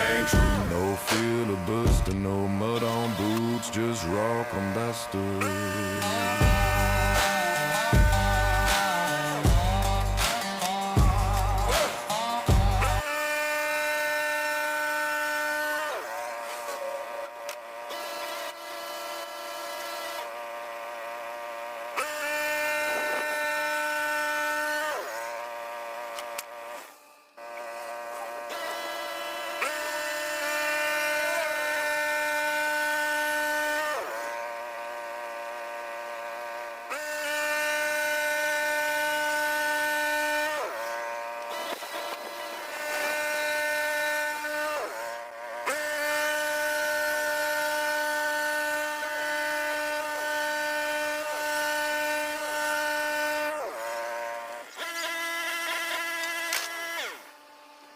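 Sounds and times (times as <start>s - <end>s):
sawmill saw whining: 0.0s - 57.9s.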